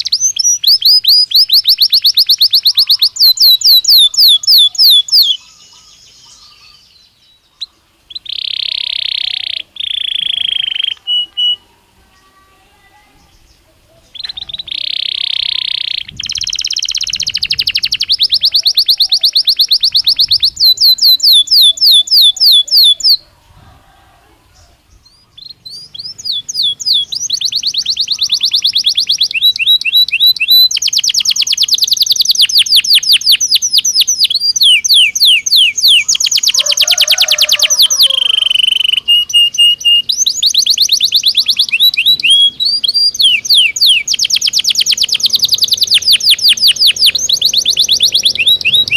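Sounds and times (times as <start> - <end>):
canary singing trills: 0.0 - 23.5, 24.4 - 48.9.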